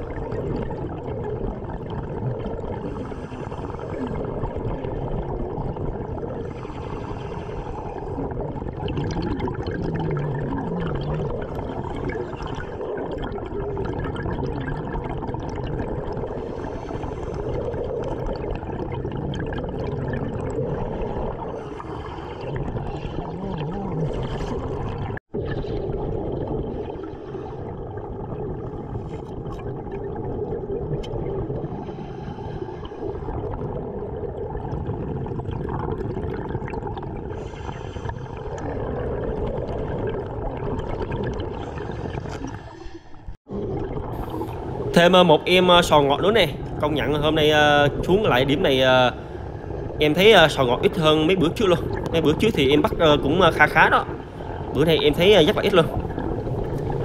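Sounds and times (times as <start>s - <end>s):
exhaled bubbles gurgling: 0.0s - 57.0s.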